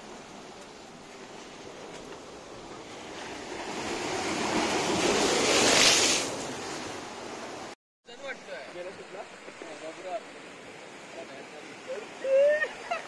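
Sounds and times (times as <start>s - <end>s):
waves breaking on rocks: 0.0s - 12.9s.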